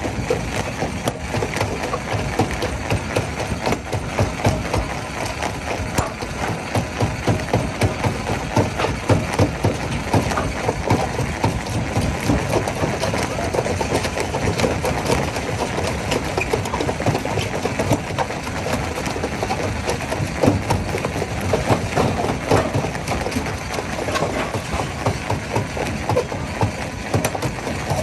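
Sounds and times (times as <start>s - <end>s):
stone crusher machine drone: 0.0s - 28.0s.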